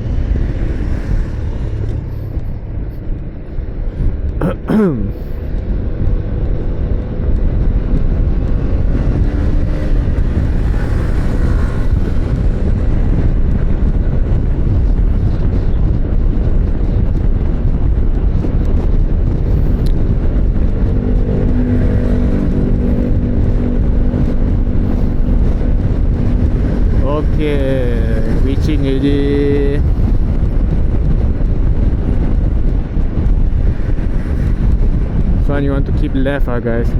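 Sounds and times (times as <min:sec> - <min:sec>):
motorcycle engine: 0:00.0 - 0:35.2
wind on microphone: 0:00.0 - 0:36.9.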